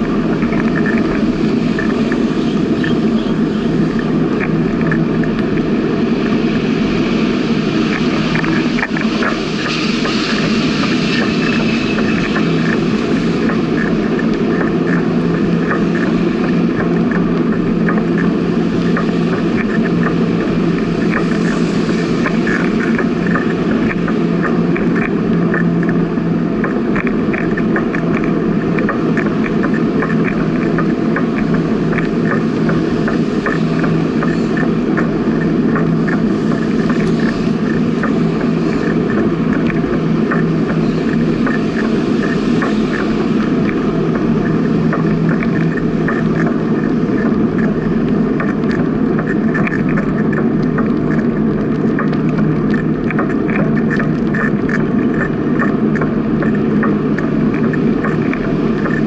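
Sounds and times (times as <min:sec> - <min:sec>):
light rattling ticks: 0:10.0 - 0:59.0.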